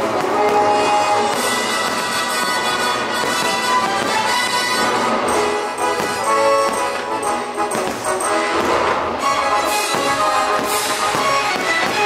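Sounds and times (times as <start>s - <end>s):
orchestral music with brass: 0.0s - 12.0s.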